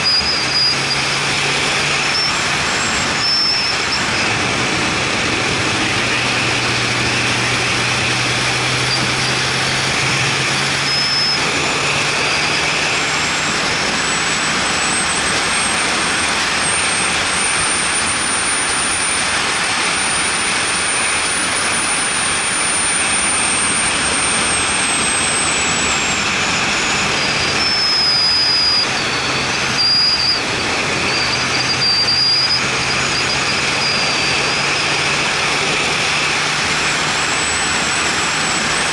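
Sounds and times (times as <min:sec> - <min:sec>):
vehicle engine drone: 0:00.0 - 0:38.9
wind rush and tyre noise: 0:00.0 - 0:38.9.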